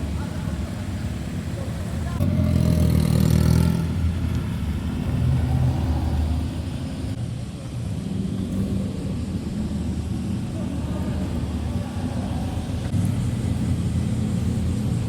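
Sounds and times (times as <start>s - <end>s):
car engine and exhaust revving: 0.0s - 15.0s.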